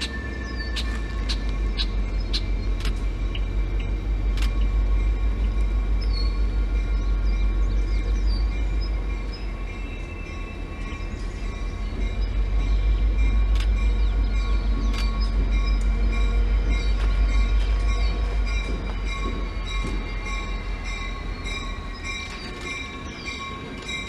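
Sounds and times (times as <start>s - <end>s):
birds chirping: 0.0s - 24.0s
diesel locomotive engine rumbling: 0.0s - 24.0s.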